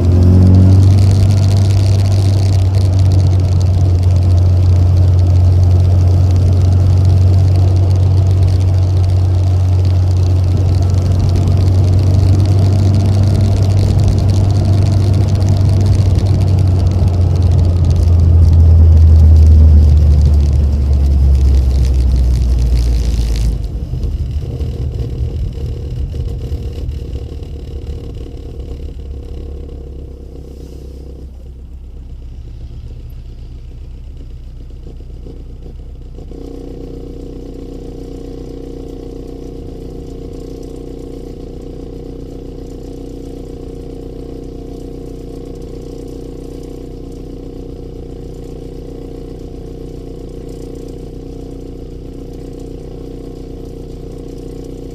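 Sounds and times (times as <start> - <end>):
car engine revving and idling: 0.0 - 54.9.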